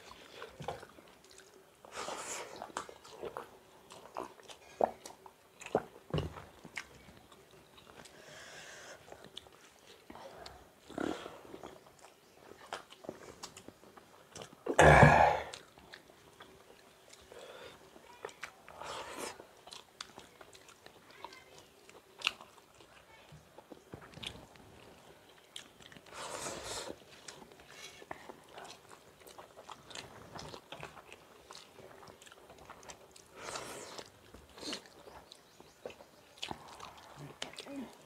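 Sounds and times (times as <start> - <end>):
people chewing: 0.0 - 38.0.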